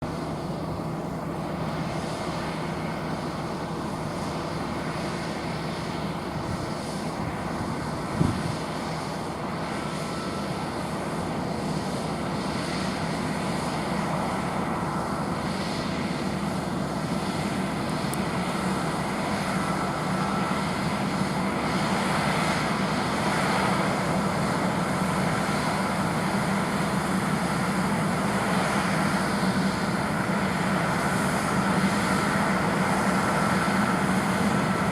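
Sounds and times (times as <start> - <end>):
combine harvester droning: 0.0 - 34.9.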